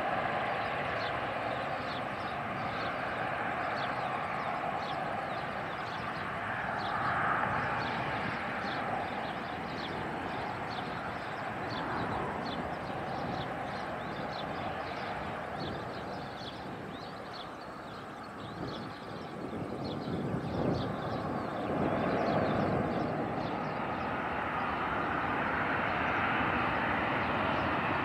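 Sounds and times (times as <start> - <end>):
small birds chirping: 0.0 - 28.0
turboprop engines droning: 0.0 - 28.0.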